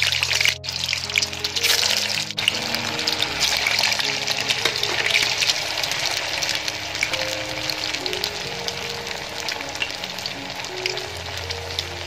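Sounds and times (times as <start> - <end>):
food sizzling in hot oil: 0.0 - 12.0
soft background music: 0.0 - 12.0.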